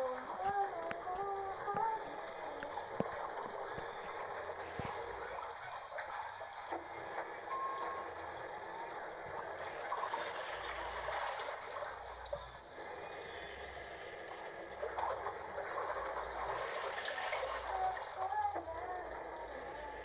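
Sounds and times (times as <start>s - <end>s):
washing machine water rushing: 0.0s - 20.0s.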